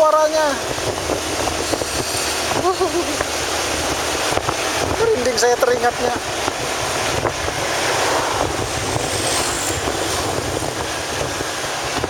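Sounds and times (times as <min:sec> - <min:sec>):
wind buffeting microphone: 0:00.0 - 0:12.0
steady low rumble: 0:00.1 - 0:12.0.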